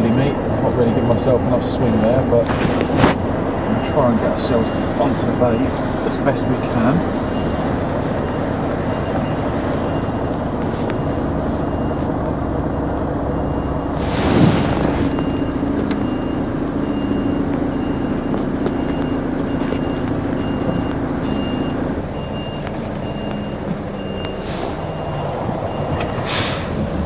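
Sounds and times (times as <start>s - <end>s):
diesel engine running: 0.0s - 27.0s
truck reversing alarm beeping: 0.0s - 27.0s.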